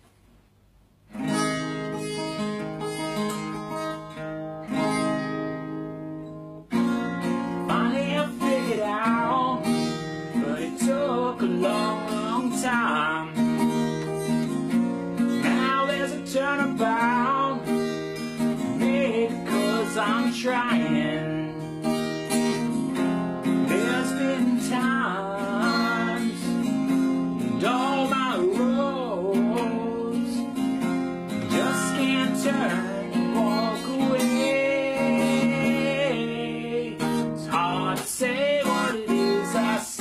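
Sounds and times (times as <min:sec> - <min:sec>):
acoustic guitar strumming: 0:01.1 - 0:40.0.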